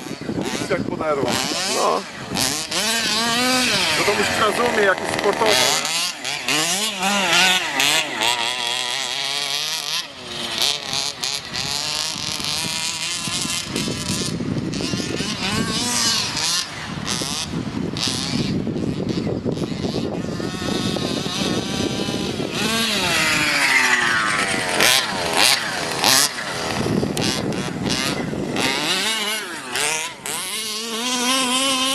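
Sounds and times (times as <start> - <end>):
two-stroke engine revving: 0.0 - 31.9.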